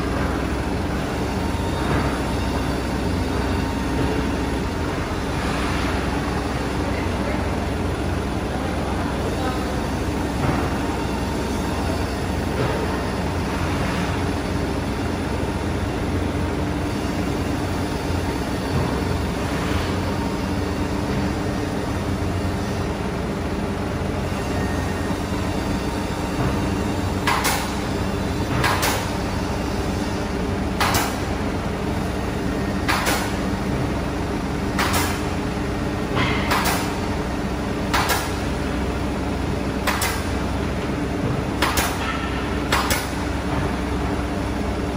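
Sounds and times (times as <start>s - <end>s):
machinery hum: 0.0s - 44.9s.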